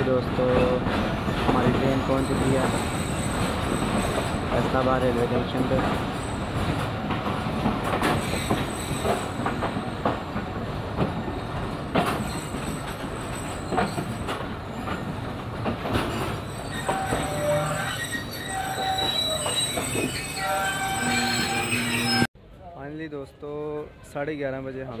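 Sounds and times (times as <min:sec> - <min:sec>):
train rumbling on rails: 0:00.0 - 0:22.3.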